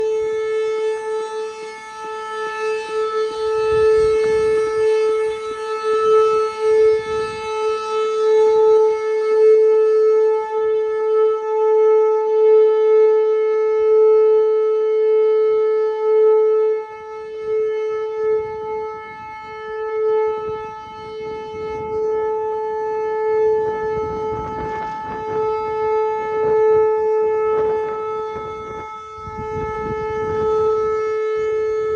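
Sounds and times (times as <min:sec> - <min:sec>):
tornado warning siren: 0:00.0 - 0:31.9.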